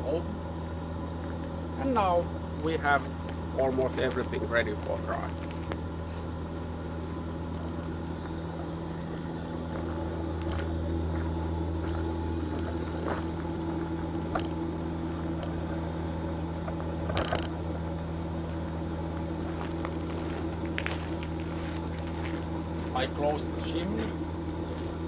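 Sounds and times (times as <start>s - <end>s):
blower humming: 0.0s - 25.0s.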